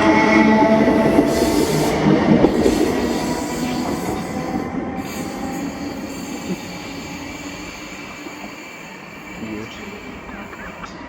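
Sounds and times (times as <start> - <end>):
passenger train running: 0.0 - 11.0.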